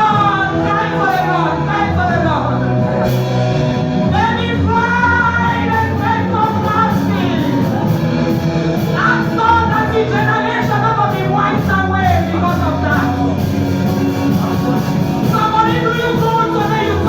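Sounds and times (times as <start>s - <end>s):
instrumental accompaniment: 0.0s - 17.0s
voices singing: 0.0s - 17.0s.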